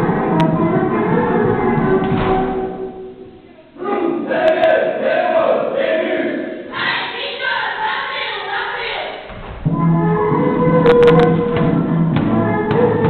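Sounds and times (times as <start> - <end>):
children singing with music: 0.0 - 13.0.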